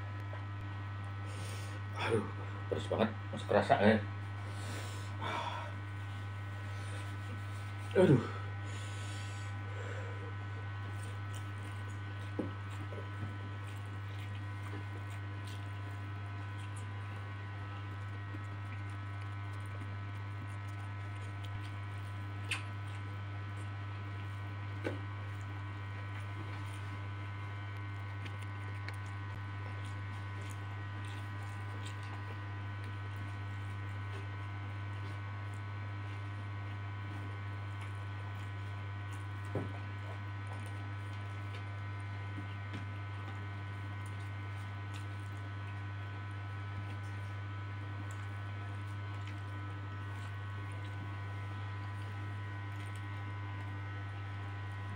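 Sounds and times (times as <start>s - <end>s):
electrical mains hum: 0.0s - 54.9s
man eating and chewing: 4.1s - 54.9s.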